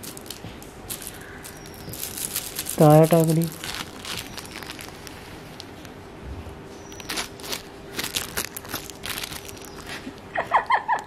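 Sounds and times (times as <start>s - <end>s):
rustling and crinkling: 0.0s - 6.0s, 6.7s - 11.0s
faint steady hum: 0.0s - 11.0s.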